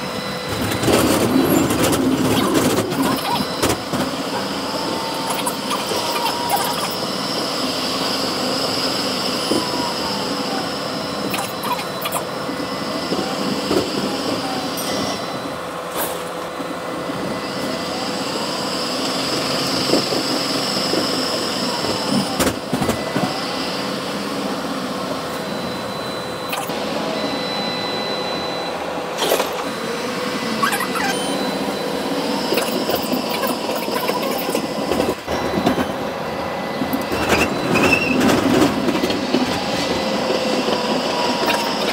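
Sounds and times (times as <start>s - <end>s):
tram wheels rumbling on rails: 0.0s - 27.4s, 28.8s - 41.9s
tram whine: 0.0s - 41.9s.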